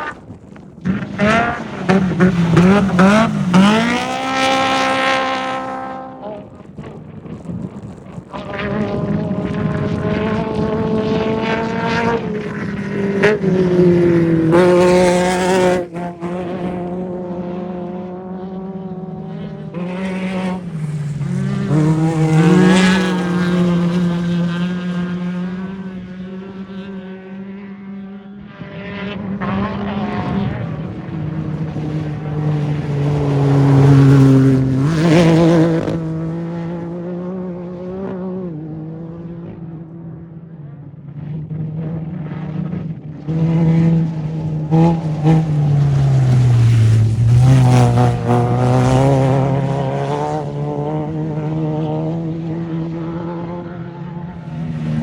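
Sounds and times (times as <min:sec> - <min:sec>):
race vehicle engines revving: 0:00.0 - 0:55.0.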